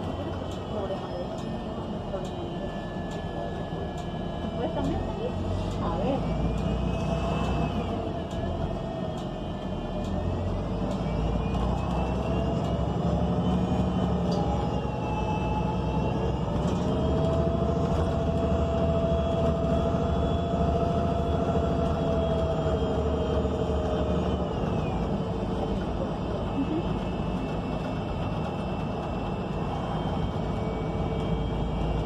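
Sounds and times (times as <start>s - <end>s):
bus engine low rumble: 0.0s - 32.0s
drivetrain whine: 0.0s - 32.0s.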